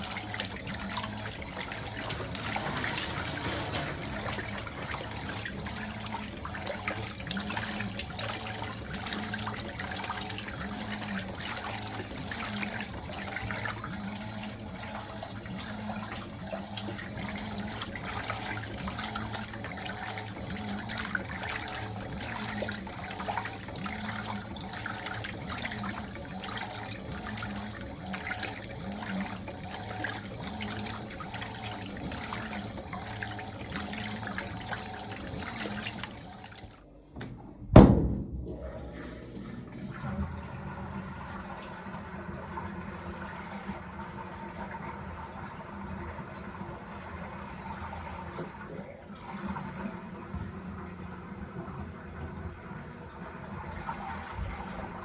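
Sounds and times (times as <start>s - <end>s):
water sloshing in washing machine: 0.0s - 55.0s.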